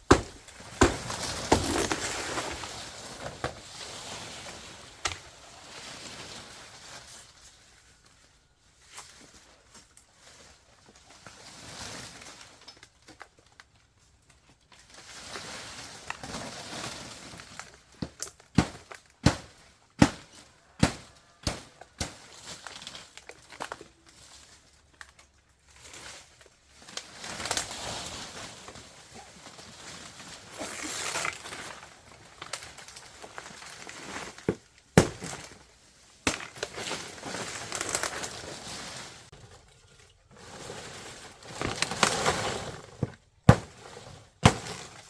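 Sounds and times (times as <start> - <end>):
rustling and scraping: 0.0 - 13.2, 20.2 - 45.0.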